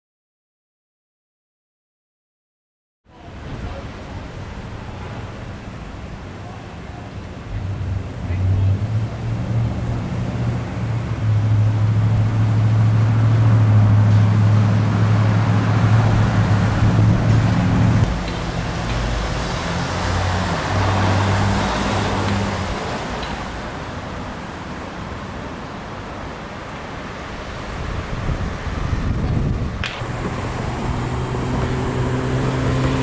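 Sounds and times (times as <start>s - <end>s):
broad rushing noise: 3.1s - 33.0s
vehicle engine humming: 4.0s - 33.0s.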